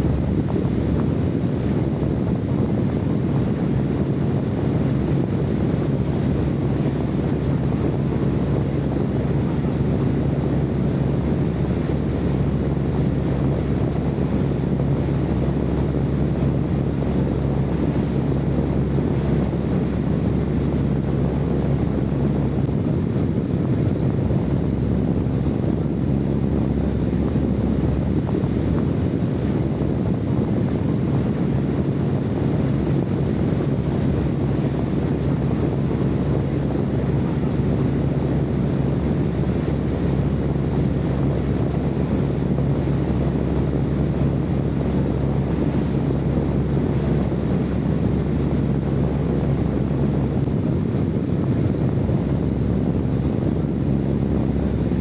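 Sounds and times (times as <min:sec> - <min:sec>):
constant low hum: 0:00.0 - 0:55.0
low rushing white noise: 0:00.0 - 0:55.0.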